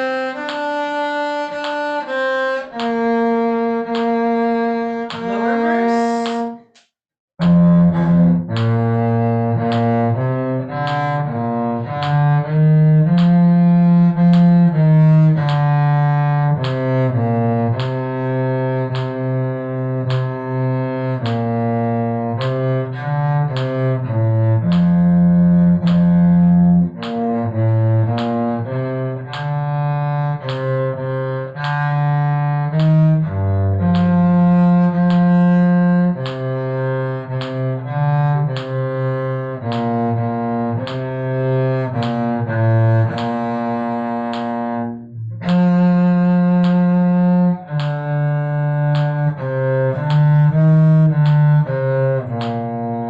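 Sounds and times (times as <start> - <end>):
bowed cello notes: 0.0 - 6.7, 7.4 - 53.0.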